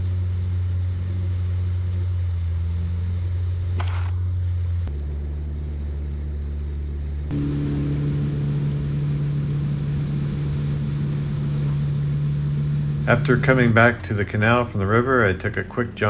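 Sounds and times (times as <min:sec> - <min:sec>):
watercraft engine droning: 0:00.0 - 0:16.0.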